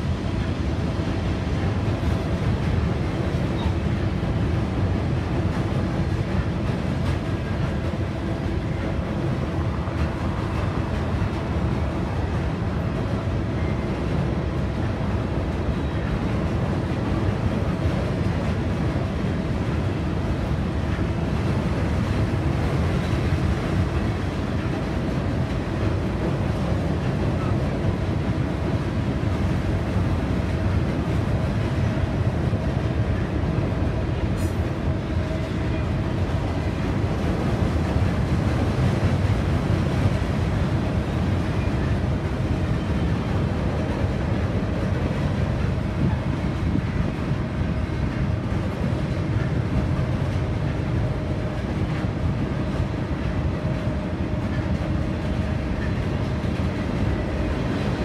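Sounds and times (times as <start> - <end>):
train wheels rumbling on a steel bridge: 0.0 - 58.0.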